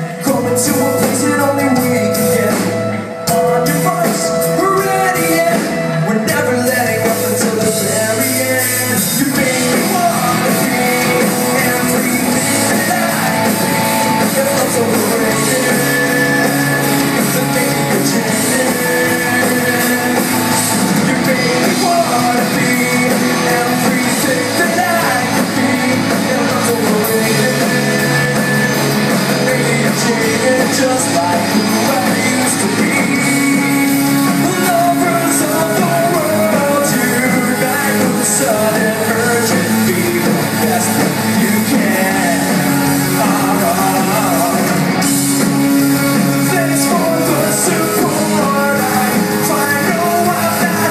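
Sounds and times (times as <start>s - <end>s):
live rock band playing: 0.0s - 50.9s.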